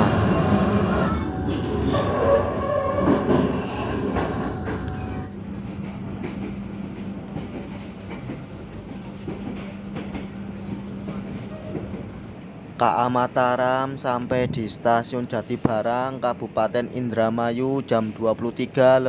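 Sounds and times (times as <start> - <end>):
train running on rails inside: 0.0 - 19.0.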